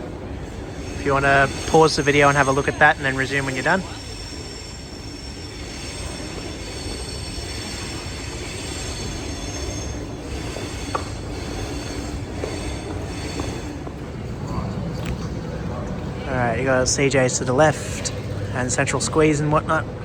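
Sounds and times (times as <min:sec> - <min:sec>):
rail vehicle rumble: 0:00.0 - 0:20.0
steel wheels squealing: 0:00.0 - 0:20.0.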